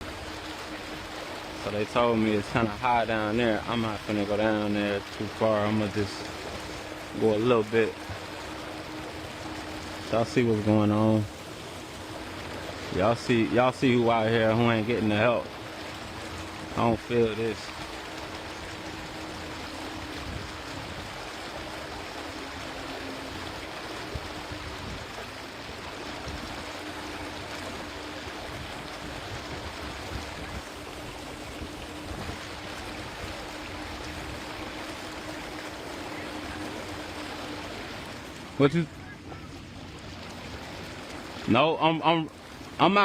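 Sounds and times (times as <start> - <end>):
faint steady hum: 0.0 - 43.0
floodwater rushing and sloshing: 0.0 - 43.0.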